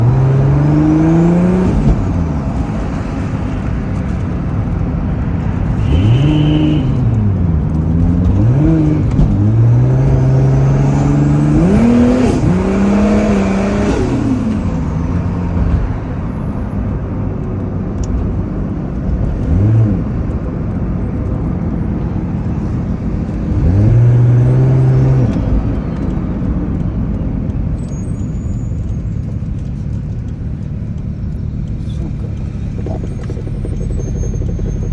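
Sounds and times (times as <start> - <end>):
car engine revving: 0.0 - 28.2, 28.9 - 34.9.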